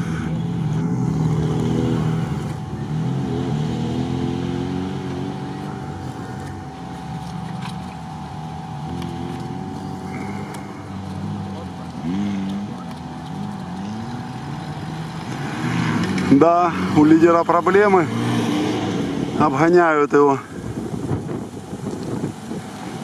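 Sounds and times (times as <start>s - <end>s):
suv engines revving: 0.0s - 23.0s.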